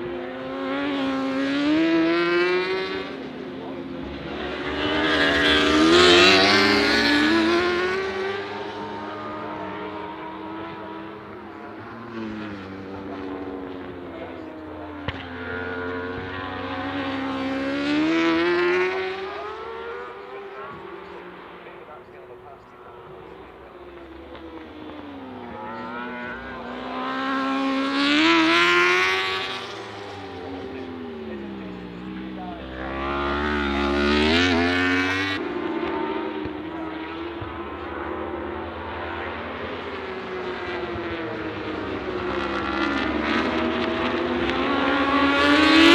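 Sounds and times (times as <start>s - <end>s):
motorcycle passing at high revs: 0.0s - 45.9s.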